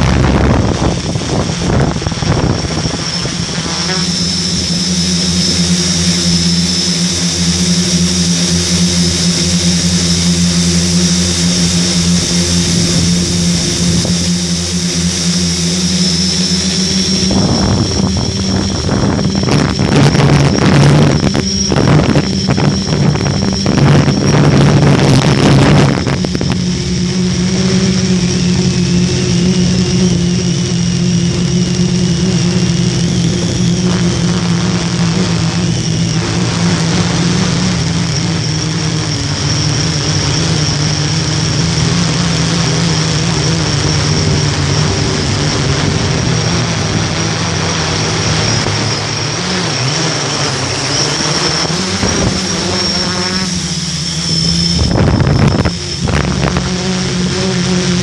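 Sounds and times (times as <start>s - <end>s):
high motor whine: 0.0s - 58.0s
quadcopter propellers buzzing: 0.0s - 58.0s.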